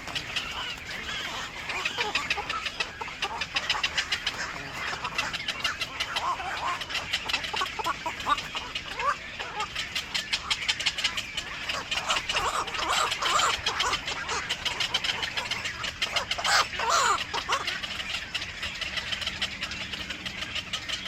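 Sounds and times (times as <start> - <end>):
birds chattering: 0.0 - 21.0.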